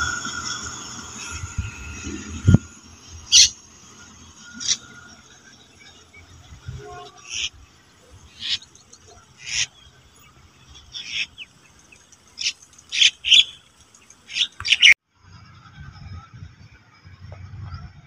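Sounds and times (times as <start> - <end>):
bird calling with high notes: 0.0 - 15.0.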